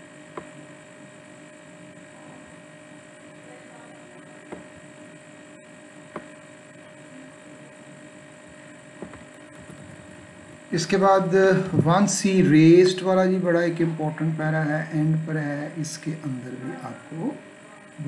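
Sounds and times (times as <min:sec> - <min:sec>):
electrical hum with hiss: 0:00.0 - 0:18.0.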